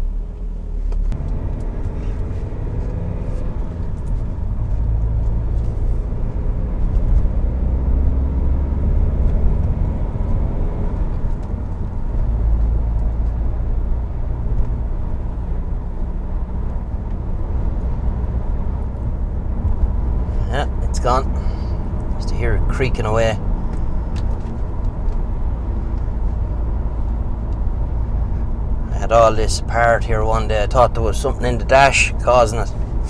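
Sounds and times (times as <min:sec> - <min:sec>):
road and engine rumble in cabin: 0:00.0 - 0:33.0.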